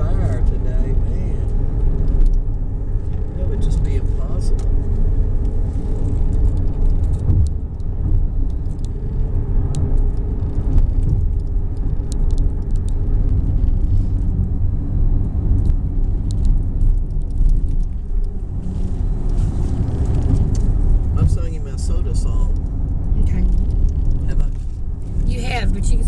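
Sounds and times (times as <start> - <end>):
road and wind noise in car: 0.0 - 26.0.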